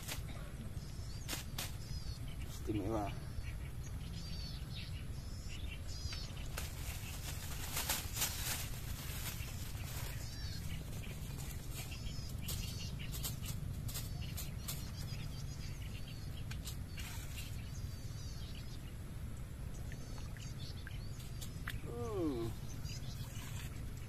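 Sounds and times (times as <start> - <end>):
small birds chirping: 0.0 - 24.0
steady low rumble: 0.0 - 24.0.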